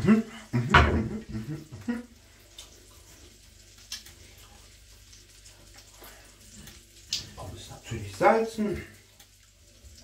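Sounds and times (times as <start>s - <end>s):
faint room hum: 0.0s - 10.0s.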